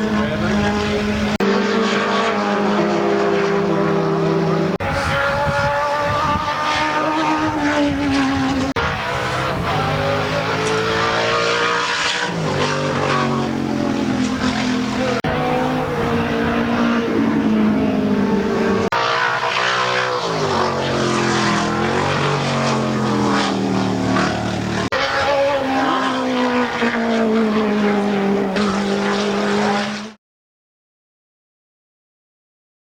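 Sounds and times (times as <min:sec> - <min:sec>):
race car engines revving: 0:00.0 - 0:30.2.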